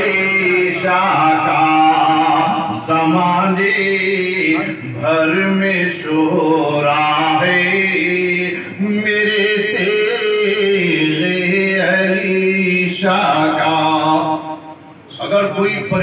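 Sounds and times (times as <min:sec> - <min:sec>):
man singing unaccompanied: 0:00.0 - 0:14.6.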